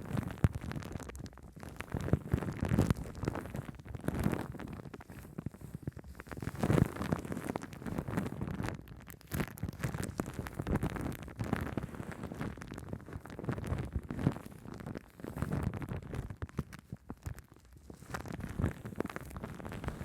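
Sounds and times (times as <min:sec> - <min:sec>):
foam crackling on a microphone: 0:00.0 - 0:20.0.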